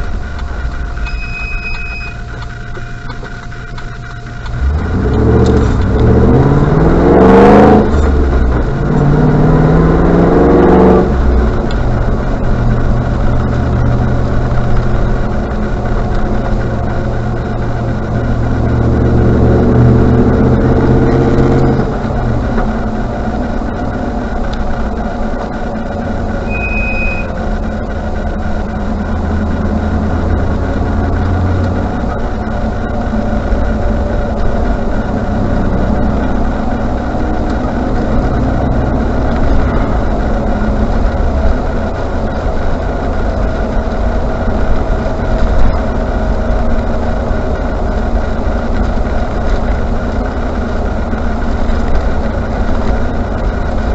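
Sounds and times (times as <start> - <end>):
brakes squealing: 0.0 - 53.9
car engine and road noise: 0.0 - 53.9.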